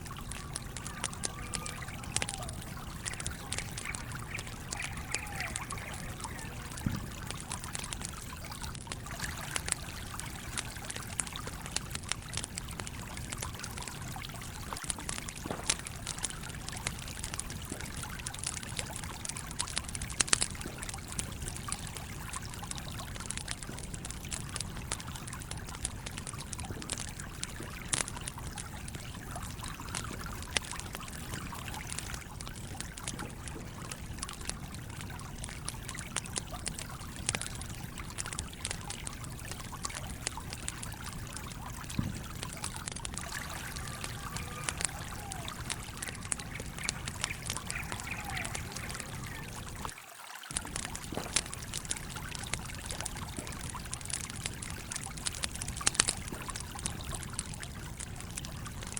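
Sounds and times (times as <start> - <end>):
campfire crackling and popping: 0.0 - 58.9
stream flowing: 0.0 - 58.9.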